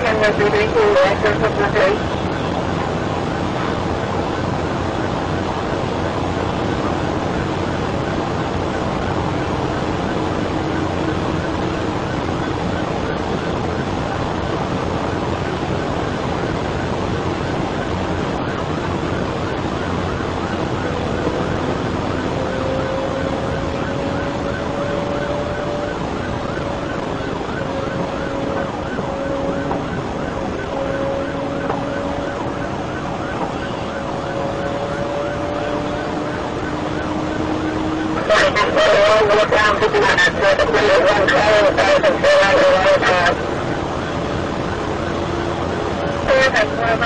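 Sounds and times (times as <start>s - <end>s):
police siren yelping: 0.0s - 47.0s
wind and road noise: 0.0s - 47.0s.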